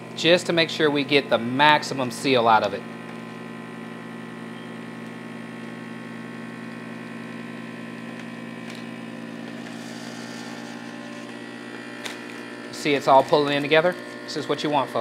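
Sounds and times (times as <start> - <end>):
vacuum sealer pump humming: 0.0 - 15.0.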